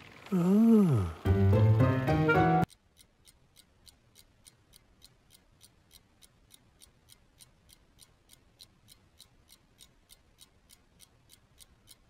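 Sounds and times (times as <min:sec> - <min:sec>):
clock ticking: 0:01.2 - 0:12.0.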